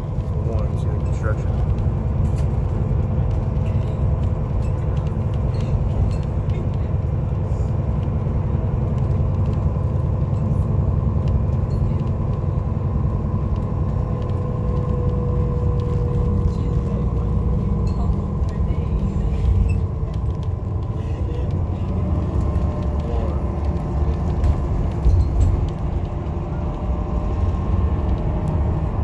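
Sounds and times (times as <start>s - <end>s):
vehicle driving rumble: 0.0s - 29.0s.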